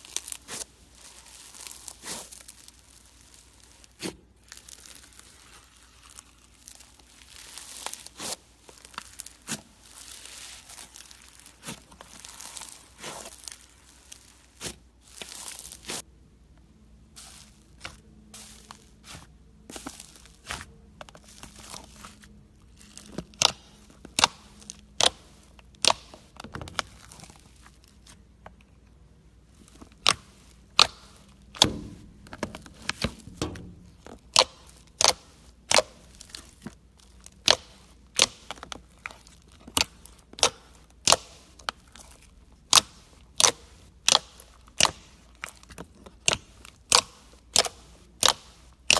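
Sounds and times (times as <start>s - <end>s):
slime crinkling crunch: 0.0s - 16.1s, 17.1s - 48.9s.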